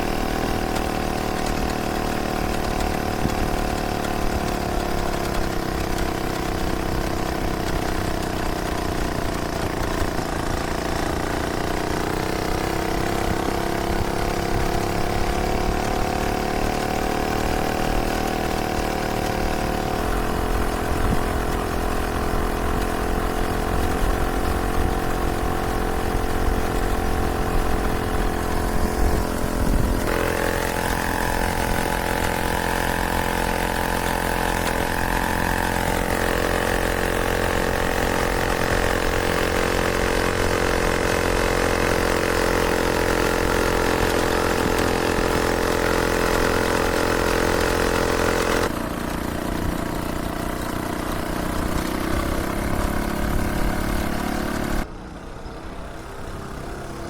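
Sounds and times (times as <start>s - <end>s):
small two-stroke engine running: 0.0s - 57.0s.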